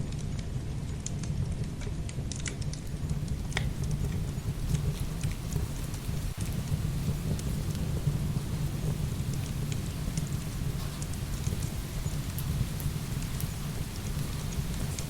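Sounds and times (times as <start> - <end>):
firewood crackling and popping: 0.0 - 15.0
heavy rain: 2.5 - 15.0.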